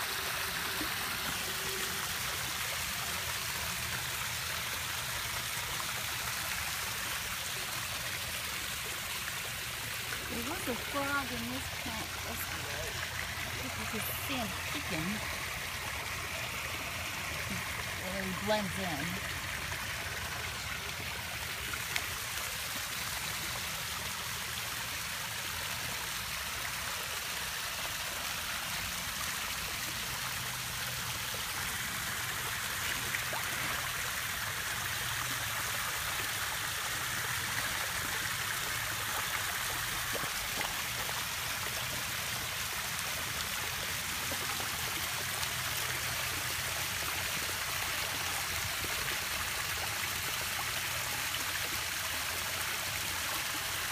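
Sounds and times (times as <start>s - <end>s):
pond waterfall trickling: 0.0s - 53.9s.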